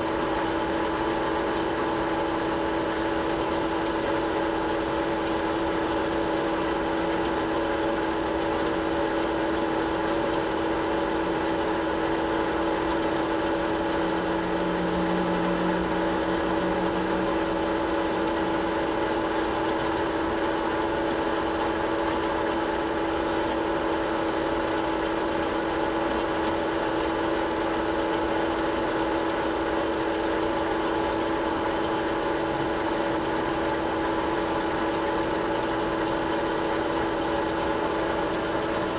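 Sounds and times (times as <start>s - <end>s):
metal lathe humming and whining: 0.0s - 38.9s.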